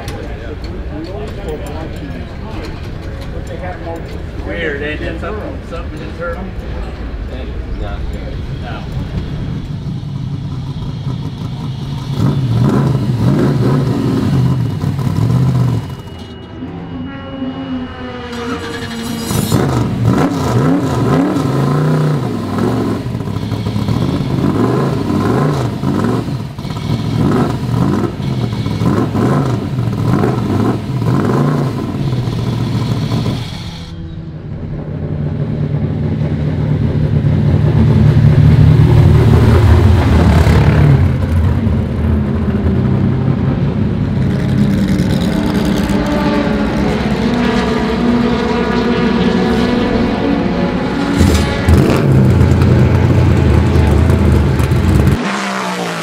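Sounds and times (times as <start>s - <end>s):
race car engines revving: 0.0s - 56.0s
deep engine note: 4.9s - 26.2s, 28.8s - 55.8s.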